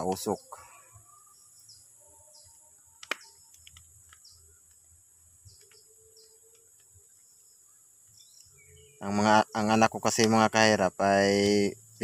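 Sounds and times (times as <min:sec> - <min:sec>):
bird chirping: 0:00.0 - 0:12.0
high insect drone: 0:00.0 - 0:12.0.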